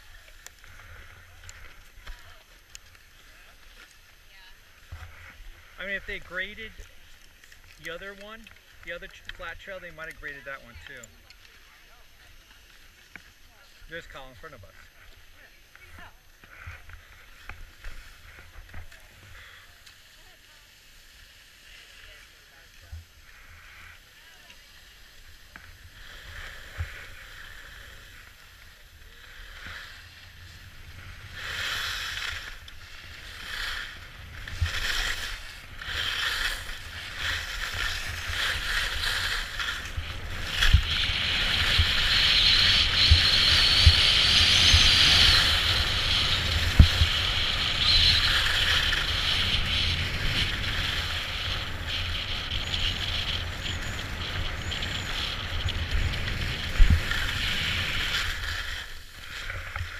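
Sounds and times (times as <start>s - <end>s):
skis sliding on snow: 0.0s - 59.9s.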